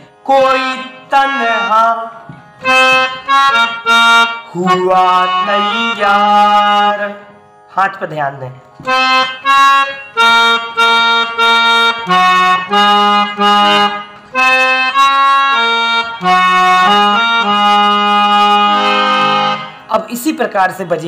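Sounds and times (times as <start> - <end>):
harmonium melody: 0.0 - 21.0.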